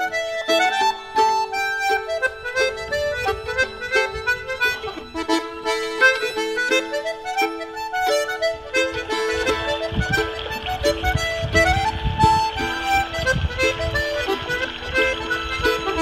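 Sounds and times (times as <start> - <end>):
reedy instrument melody: 0.0 - 16.0
sustained chord tones: 0.0 - 16.0.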